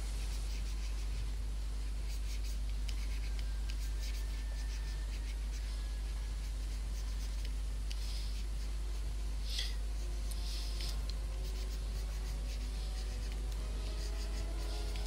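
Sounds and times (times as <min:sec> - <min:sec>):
low electrical hum: 0:00.0 - 0:15.0
stylus scratching on tablet: 0:00.0 - 0:15.0.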